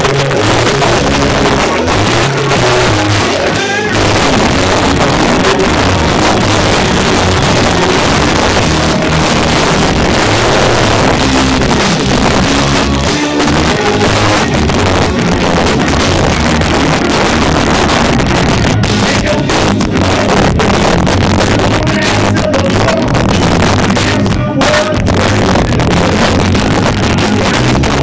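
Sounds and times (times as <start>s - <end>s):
electric guitar through amplifier: 0.0s - 28.0s
live rock band: 0.0s - 28.0s.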